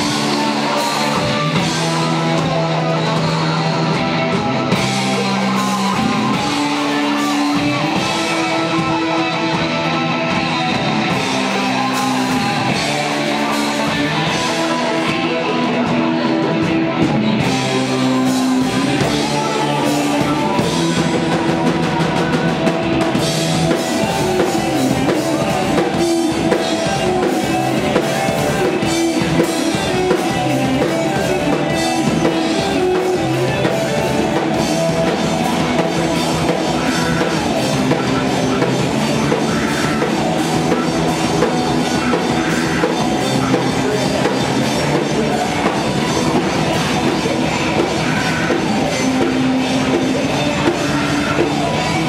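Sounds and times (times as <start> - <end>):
drum kit with cymbal hits: 0.0 - 52.0
electric guitars playing chords: 0.0 - 52.0.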